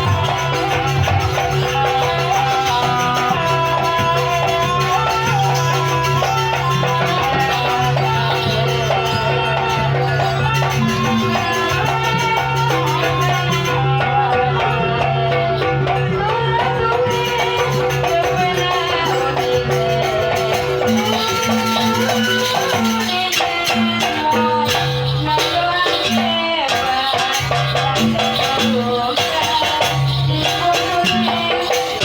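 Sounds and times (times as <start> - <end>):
rattling percussion: 0.0 - 32.0.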